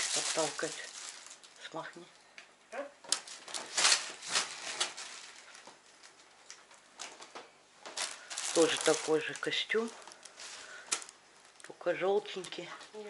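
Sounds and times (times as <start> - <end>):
clothes and plastic packaging rustling: 0.0 - 13.0.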